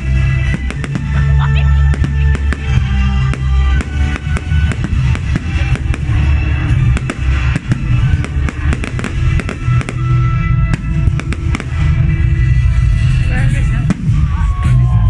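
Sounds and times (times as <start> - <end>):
fireworks bursting and crackling: 0.0 - 15.0
loud music with heavy bass: 0.0 - 15.0.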